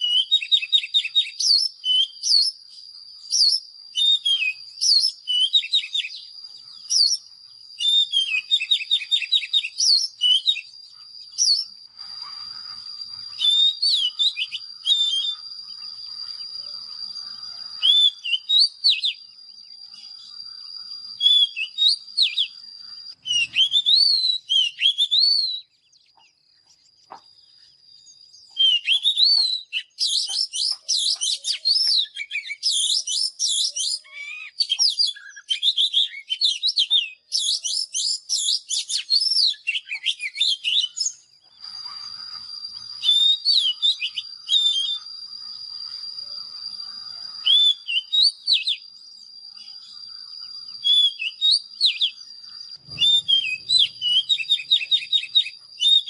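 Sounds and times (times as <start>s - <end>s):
bird singing whistled phrases: 0.0s - 26.4s, 27.4s - 56.0s
steady high-pitched whine: 0.0s - 56.0s.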